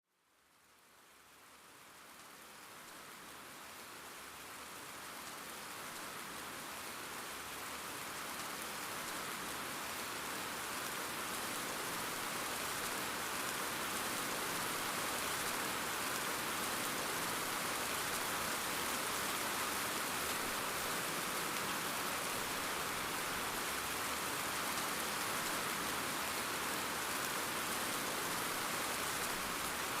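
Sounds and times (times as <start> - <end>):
steady rain hiss: 0.1 - 30.0.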